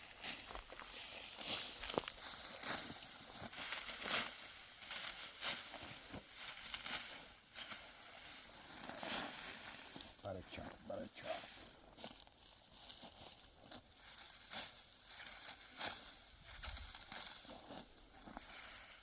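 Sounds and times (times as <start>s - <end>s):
wheat stalks crackling and rustling: 0.0s - 19.0s.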